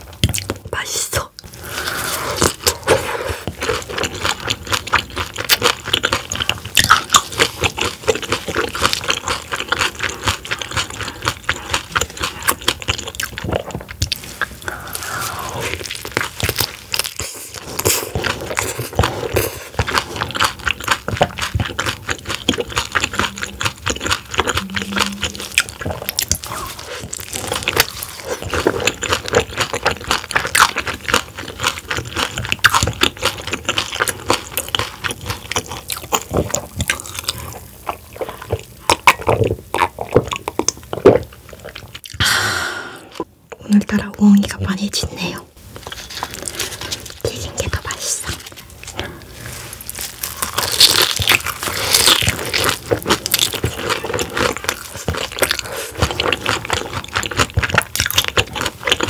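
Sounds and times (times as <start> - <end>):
chewing and crunching crab: 0.0 - 42.2, 43.1 - 59.0.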